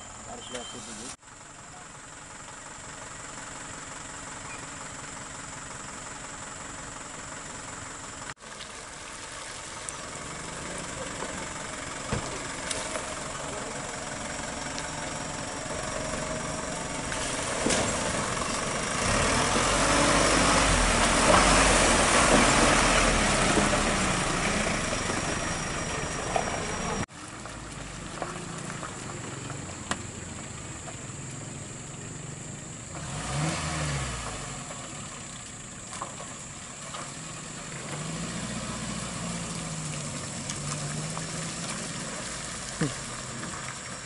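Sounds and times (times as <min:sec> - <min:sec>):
diesel truck engine driving: 0:00.0 - 0:44.0.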